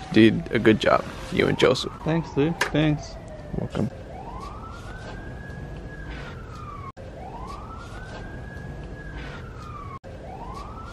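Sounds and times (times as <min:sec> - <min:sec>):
siren wailing: 0:00.0 - 0:10.9.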